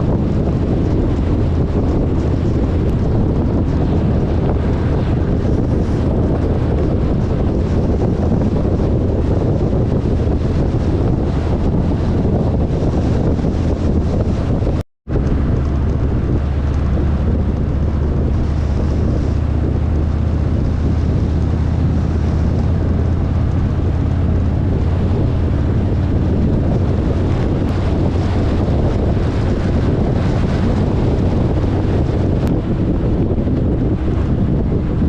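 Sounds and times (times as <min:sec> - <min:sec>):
motorcycle engine cruising: 0:00.0 - 0:35.0
wind buffeting on microphone: 0:00.0 - 0:35.0.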